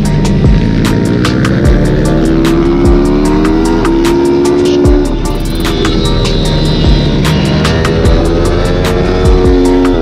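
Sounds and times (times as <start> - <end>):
background music with a beat: 0.0 - 10.0
pit bike engine accelerating: 0.0 - 10.0.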